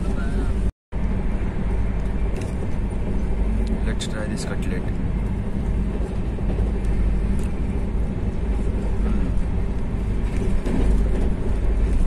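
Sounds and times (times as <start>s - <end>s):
moving train rumble inside coach: 0.0s - 12.0s.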